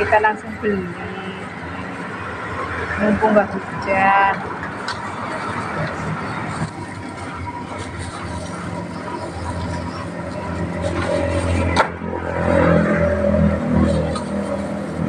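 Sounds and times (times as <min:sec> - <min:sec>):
road traffic: 0:00.0 - 0:15.0
vehicle passing: 0:00.0 - 0:15.0.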